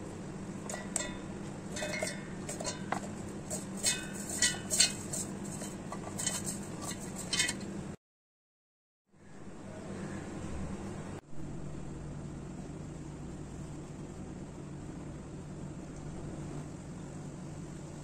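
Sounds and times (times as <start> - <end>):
steady low hum: 0.0 - 8.0, 9.1 - 18.0.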